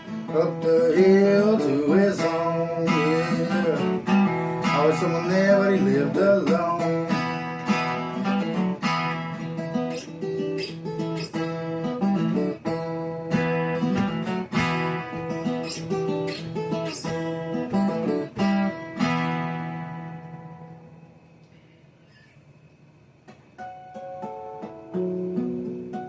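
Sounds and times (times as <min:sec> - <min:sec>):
acoustic guitar strumming chords: 0:00.0 - 0:22.2, 0:23.3 - 0:26.0.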